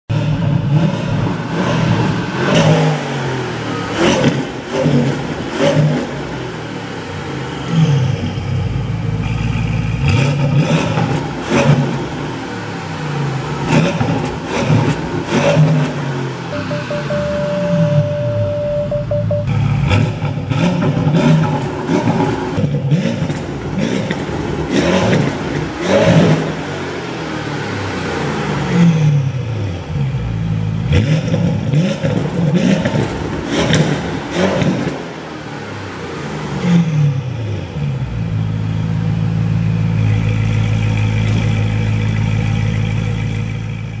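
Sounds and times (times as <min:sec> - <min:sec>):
car engine revving: 0:00.1 - 0:43.8.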